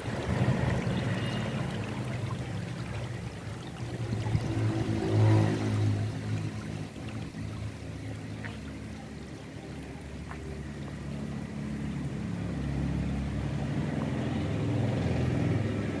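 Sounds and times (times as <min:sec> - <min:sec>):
fountain water trickling and splashing: 0:00.0 - 0:16.0.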